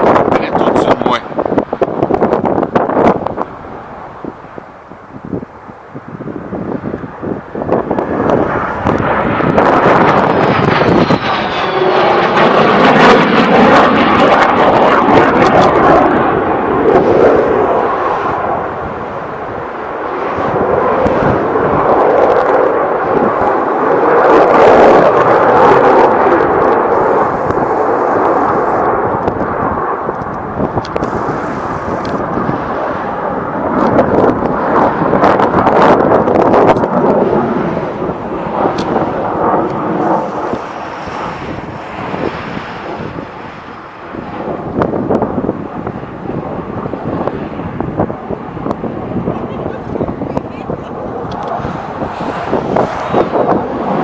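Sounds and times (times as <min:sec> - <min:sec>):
jet airplane flying overhead: 0:00.0 - 0:54.0.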